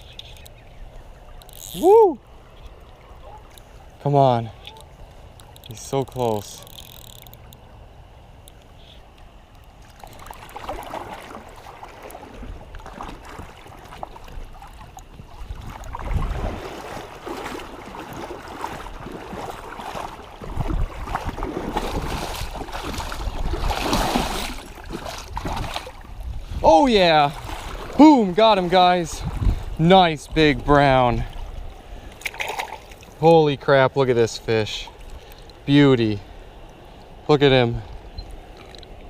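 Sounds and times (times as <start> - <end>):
creek water splashing: 0.0 - 39.0.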